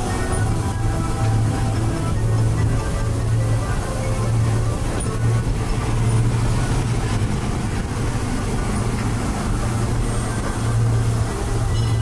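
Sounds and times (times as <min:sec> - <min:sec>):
steam train humming and rumbling: 0:00.0 - 0:12.0.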